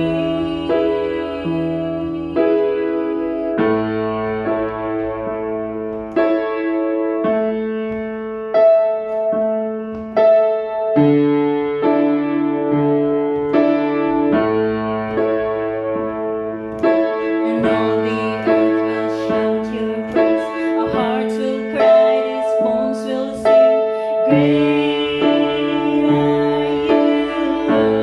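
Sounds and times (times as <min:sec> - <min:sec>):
piano playing sustained chords: 0:00.0 - 0:28.0.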